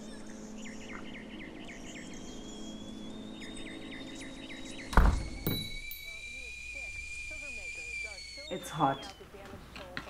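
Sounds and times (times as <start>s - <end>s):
bird chirping: 0.0s - 9.5s
thin steady high tone: 0.0s - 10.0s.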